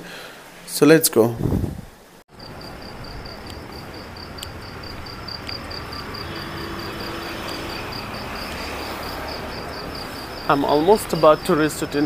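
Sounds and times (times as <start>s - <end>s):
steady background hiss: 0.0s - 12.0s
insect chirping: 2.3s - 12.0s.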